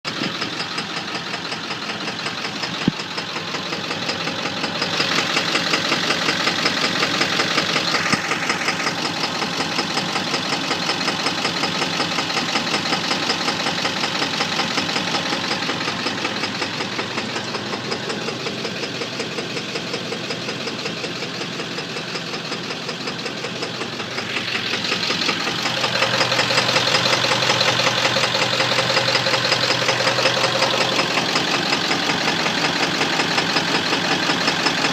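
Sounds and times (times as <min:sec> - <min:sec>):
diesel engine running with a knock: 0:00.1 - 0:34.9.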